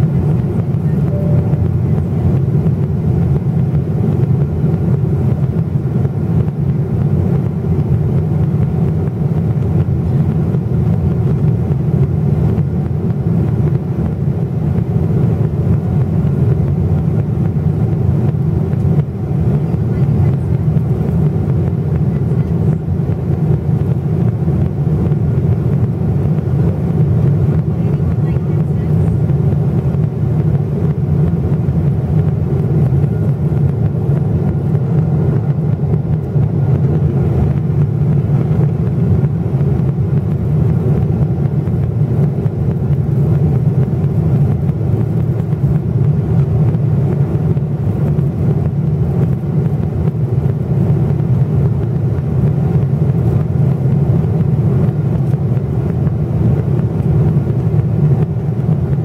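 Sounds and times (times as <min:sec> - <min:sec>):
turbofan engines at climb power: 0:00.0 - 0:59.0.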